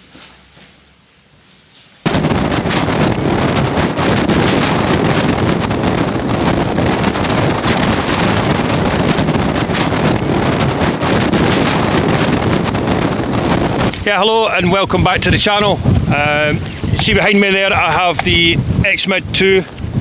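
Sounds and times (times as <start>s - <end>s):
gusty wind on microphone: 2.0s - 20.0s.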